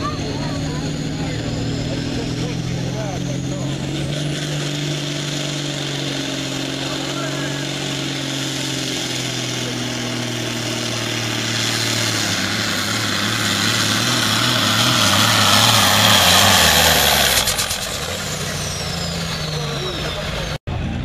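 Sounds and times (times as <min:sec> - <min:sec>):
tractor diesel engine at full throttle: 0:00.0 - 0:21.0.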